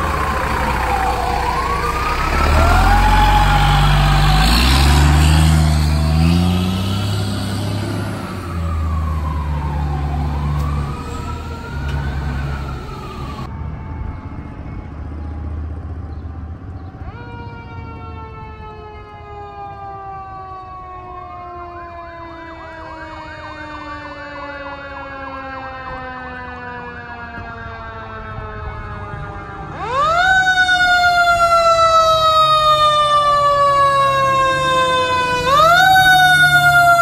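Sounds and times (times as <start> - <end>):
electronic yelp siren: 0.0 - 37.0
fire engine rumbling: 0.0 - 37.0
fire engine siren wailing: 0.0 - 37.0.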